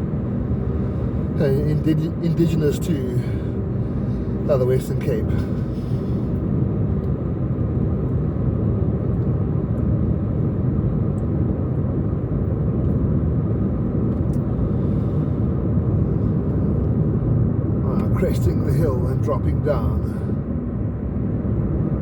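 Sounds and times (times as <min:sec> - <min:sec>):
car driving on road: 0:00.0 - 0:22.0.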